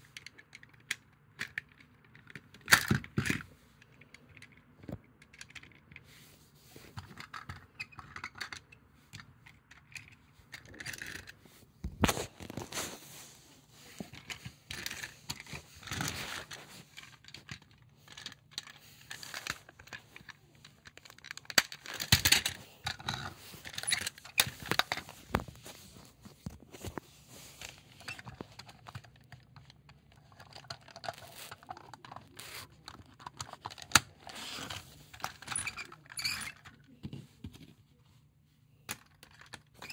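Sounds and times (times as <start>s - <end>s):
plastic toys clicking and tapping: 0.0s - 6.1s, 6.9s - 11.4s, 13.9s - 25.5s, 27.6s - 37.7s, 38.9s - 39.9s.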